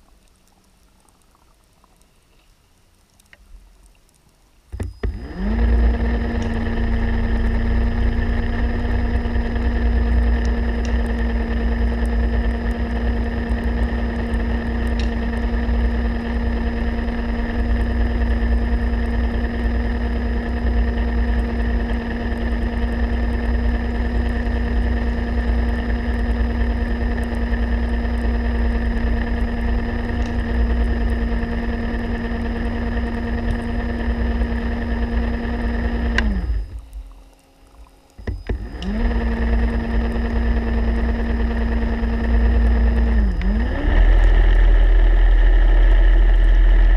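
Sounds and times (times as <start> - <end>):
electric motor humming underwater: 0.0 - 46.9.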